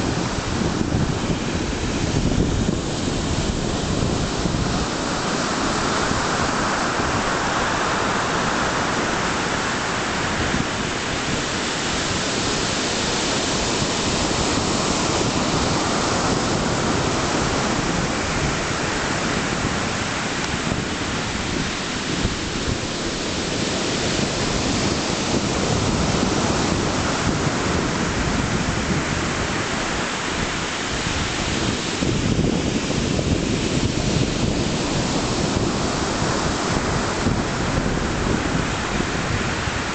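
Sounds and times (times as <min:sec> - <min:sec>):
heavy waves breaking: 0:00.0 - 0:39.9
wind buffeting microphone: 0:00.0 - 0:39.9.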